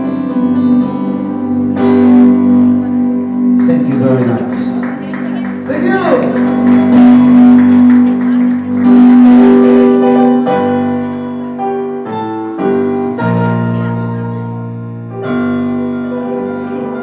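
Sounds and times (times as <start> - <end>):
keyboard playing slow chords: 0.0 - 17.0.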